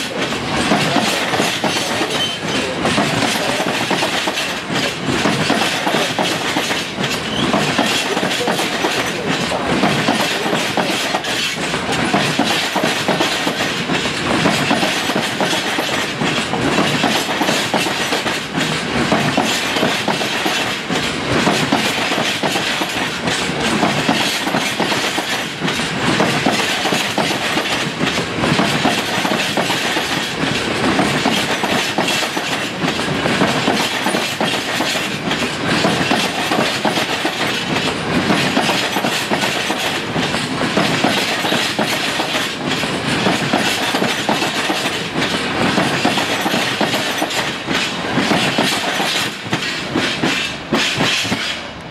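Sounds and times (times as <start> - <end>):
clickety-clack over rail joints: 0.0 - 51.9
train wheels rumbling on rails: 0.0 - 51.9.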